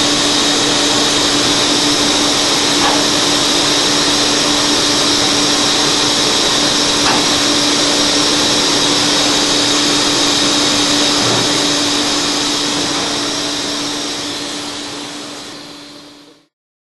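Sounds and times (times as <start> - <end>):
constant machine hum: 0.0 - 16.5
grinding machine hiss: 0.0 - 16.5.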